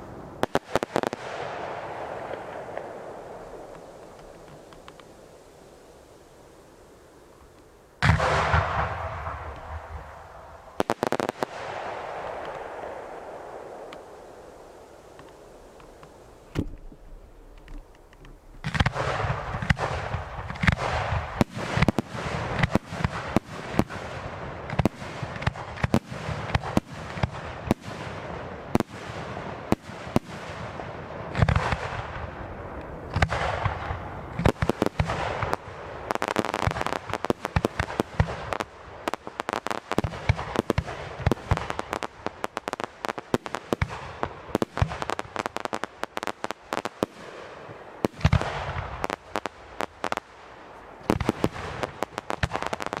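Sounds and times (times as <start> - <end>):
fireworks bangs and crackling: 0.0 - 53.0
steady hiss: 0.0 - 53.0.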